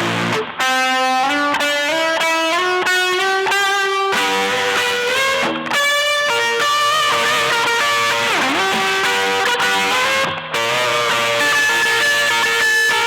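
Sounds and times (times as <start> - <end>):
distorted electric guitar lead: 0.0 - 13.0.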